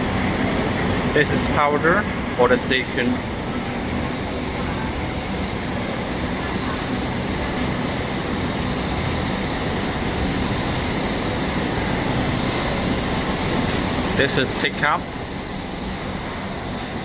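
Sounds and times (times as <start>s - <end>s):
production line machinery running: 0.0s - 17.0s
pulsing high-pitched tone: 0.0s - 17.0s.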